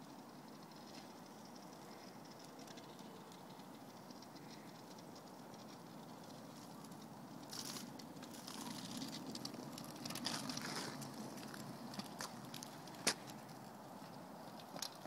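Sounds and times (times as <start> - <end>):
light pattering and ticking: 0.0 - 15.0.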